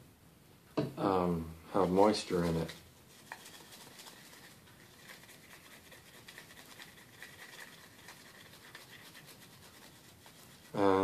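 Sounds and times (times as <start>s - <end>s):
faint scratchy scrubbing: 1.8s - 11.0s.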